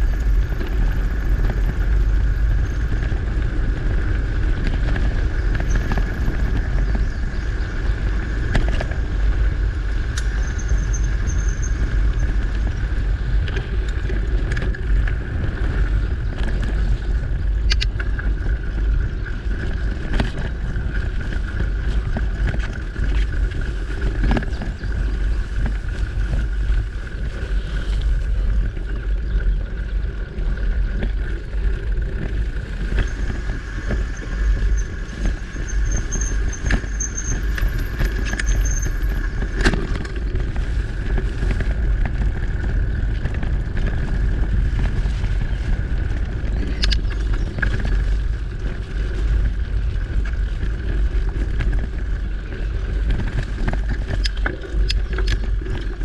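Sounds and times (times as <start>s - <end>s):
bike clicks and rattles: 0.0s - 56.0s
tyre rumble: 0.0s - 56.0s
wind rushing over microphone: 0.0s - 56.0s.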